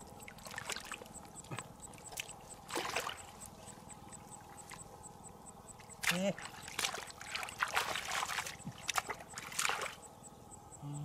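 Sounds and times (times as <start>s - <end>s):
legs splashing in muddy water: 0.1s - 4.8s, 5.8s - 10.0s.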